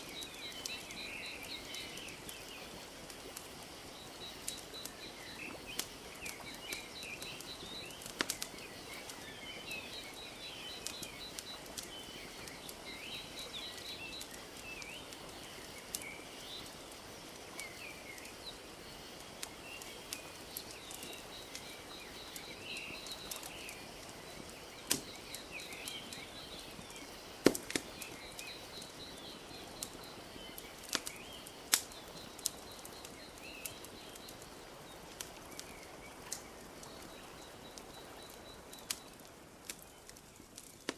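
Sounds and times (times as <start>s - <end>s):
small birds chirping: 0.0s - 40.9s
wood fire crackling and popping: 0.0s - 40.9s.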